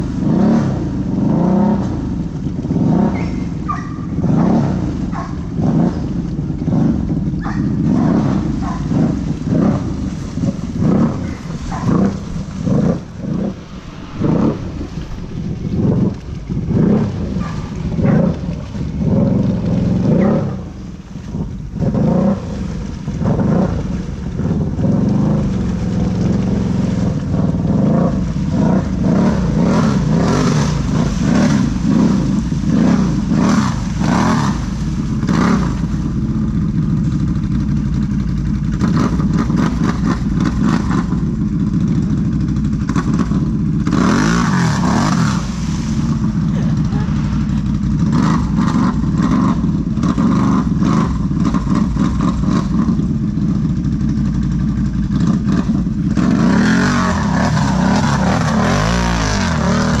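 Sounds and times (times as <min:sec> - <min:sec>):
vehicle engine revving: 0:00.0 - 1:00.0.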